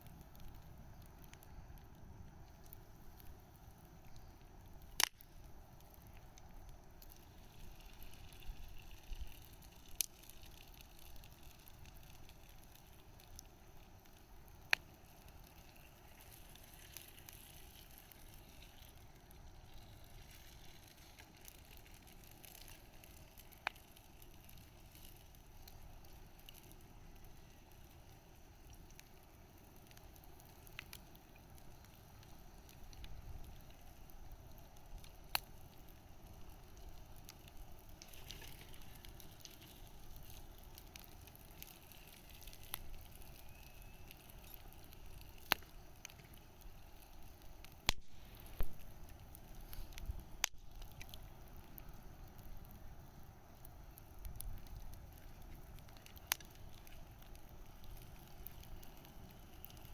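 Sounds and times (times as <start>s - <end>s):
bonfire crackling and hissing: 0.0s - 59.9s
burning wood popping: 0.0s - 59.9s.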